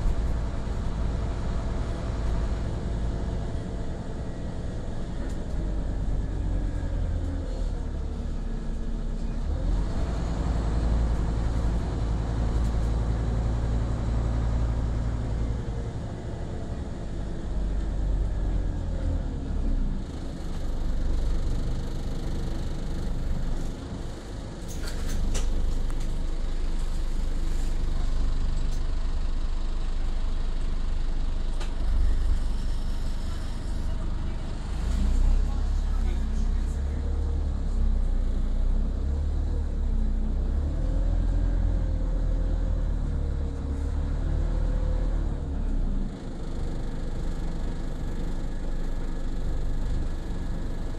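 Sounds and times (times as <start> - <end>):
bus engine running: 0.0 - 50.9.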